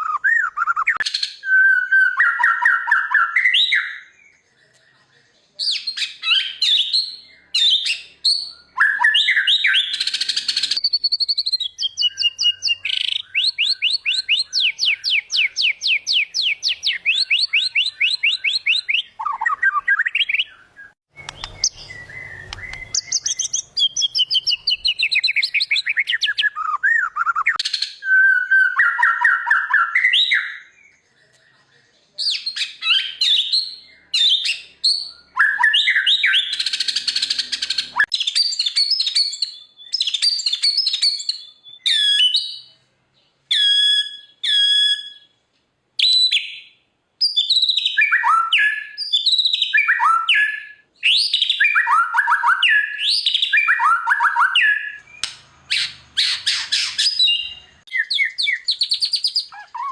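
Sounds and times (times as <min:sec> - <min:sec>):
bird singing whistled song: 0:00.0 - 0:42.8, 0:43.5 - 0:45.4, 0:46.0 - 0:59.9.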